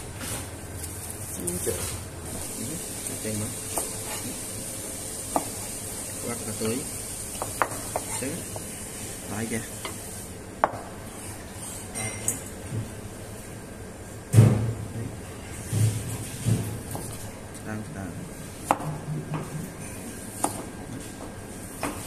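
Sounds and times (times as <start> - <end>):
steady background hiss: 0.0 - 19.1.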